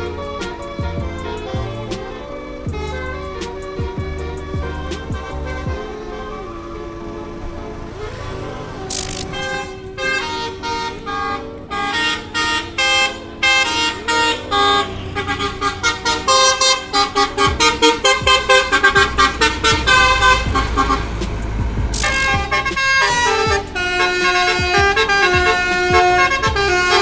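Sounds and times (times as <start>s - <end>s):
low road rumble: 0.0s - 27.0s
musical horn toots: 0.0s - 27.0s.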